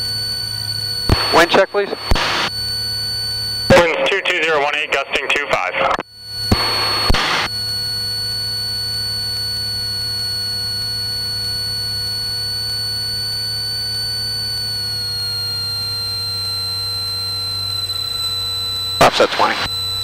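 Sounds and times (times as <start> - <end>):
low cockpit hum: 0.0 - 20.0.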